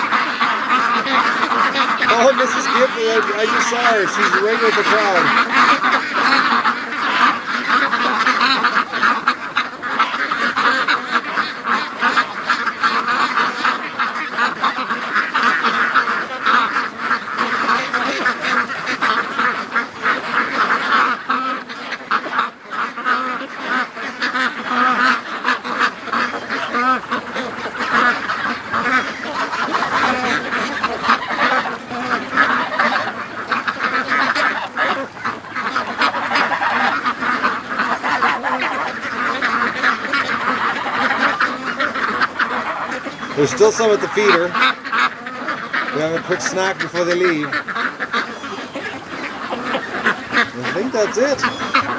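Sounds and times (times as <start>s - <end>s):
ducks quacking: 0.0s - 51.9s.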